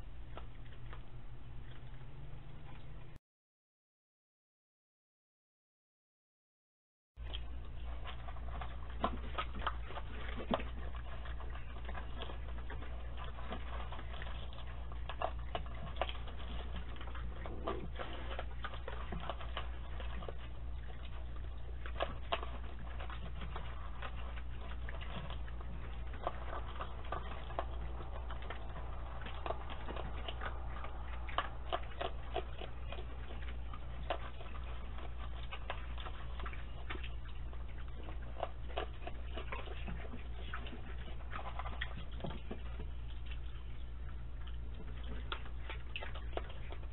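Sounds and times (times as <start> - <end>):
animals crunching dry kibble: 0.0 - 3.2, 7.2 - 46.9
low microphone hum: 7.5 - 46.9.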